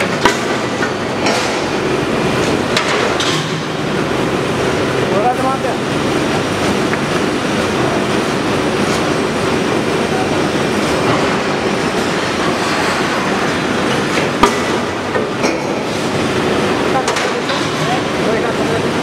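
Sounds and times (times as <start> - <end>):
rolling mill clatter: 0.0 - 19.0.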